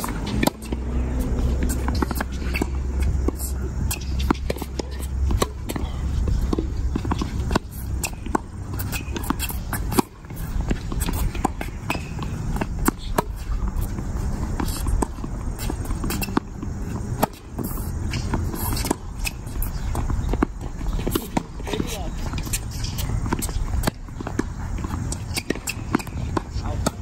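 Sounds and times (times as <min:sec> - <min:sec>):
steady low rumble: 0:00.0 - 0:27.0
tennis ball hit and bouncing: 0:00.0 - 0:27.0.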